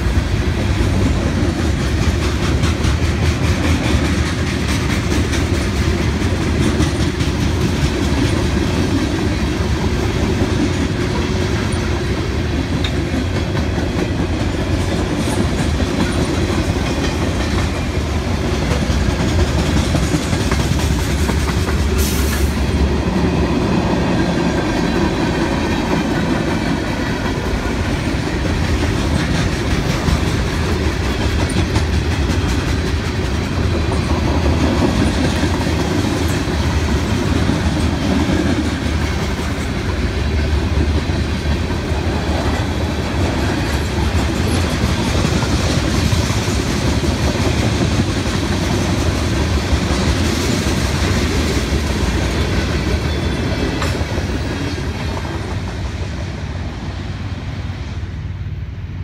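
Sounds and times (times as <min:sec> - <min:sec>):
wheels clacking on rail joints: 0:00.0 - 0:56.3
freight train wheels rumbling: 0:00.0 - 0:59.0.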